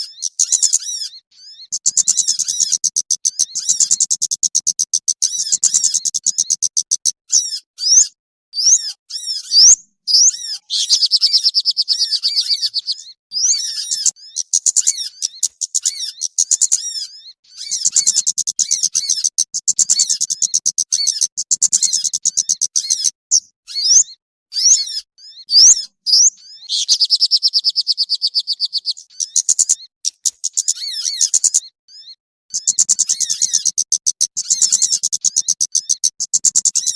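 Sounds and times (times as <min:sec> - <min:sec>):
songbirds chirping and twittering: 0:00.0 - 0:36.9.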